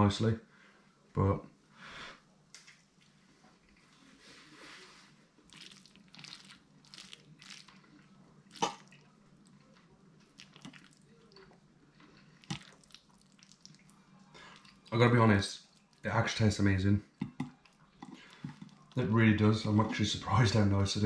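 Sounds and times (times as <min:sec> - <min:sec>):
wet squishing of noodles: 0:02.6 - 0:19.8.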